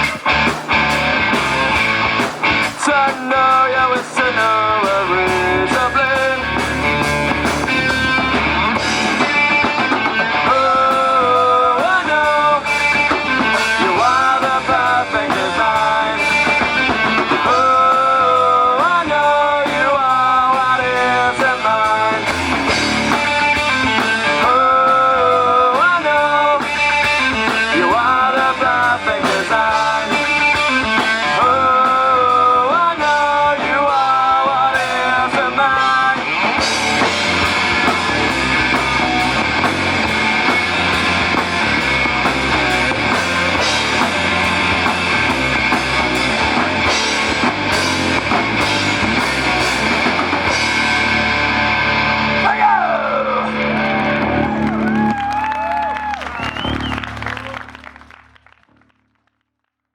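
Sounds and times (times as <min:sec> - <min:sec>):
drum kit: 0:00.0 - 0:52.8
melodic lead guitar line: 0:00.0 - 0:58.0
rock band playing live: 0:00.0 - 0:58.1.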